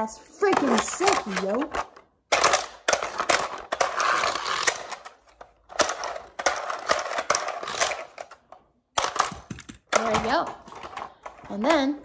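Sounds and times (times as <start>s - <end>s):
plastic toy parts clattering: 0.2s - 12.0s.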